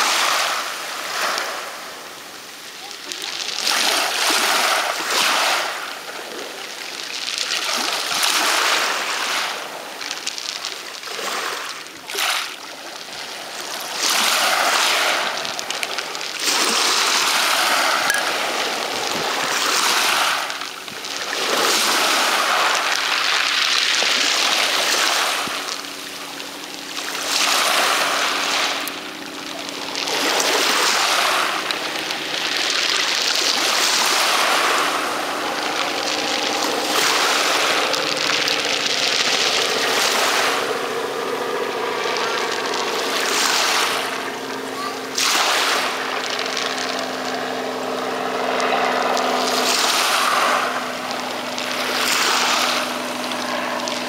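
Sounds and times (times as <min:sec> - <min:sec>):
waves washing over pebbles: 0:00.0 - 0:54.0.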